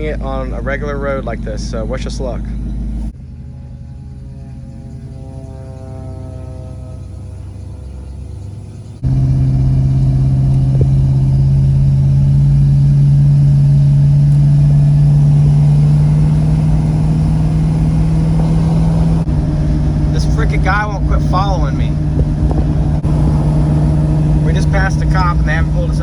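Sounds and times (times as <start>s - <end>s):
vehicle engine droning under load: 0.0s - 26.0s.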